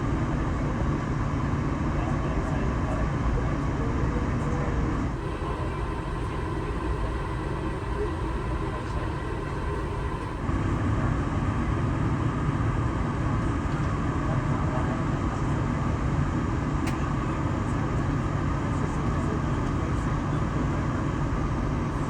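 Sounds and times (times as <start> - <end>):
aircraft cabin low rumble: 0.0 - 22.0.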